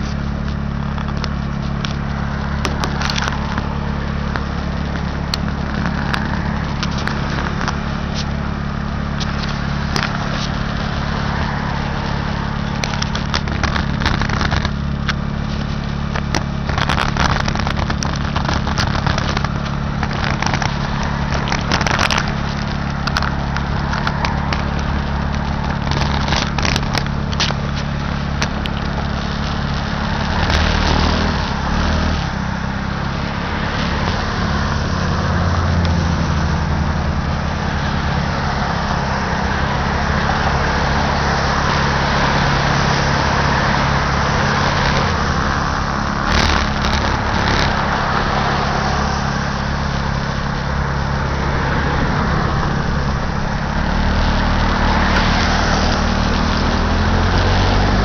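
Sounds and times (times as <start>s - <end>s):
cars passing on wet road: 0.0s - 58.0s.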